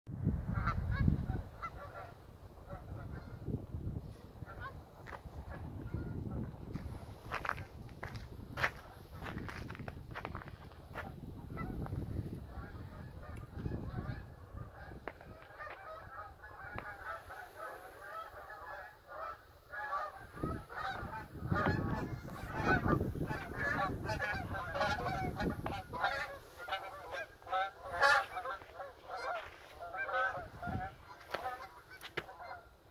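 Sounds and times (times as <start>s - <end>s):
geese honking: 0.5s - 3.5s, 4.2s - 6.6s, 10.4s - 32.9s.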